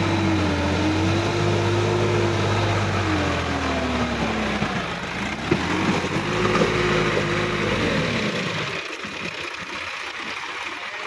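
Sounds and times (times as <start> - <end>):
tractor diesel engine working: 0.0 - 11.0.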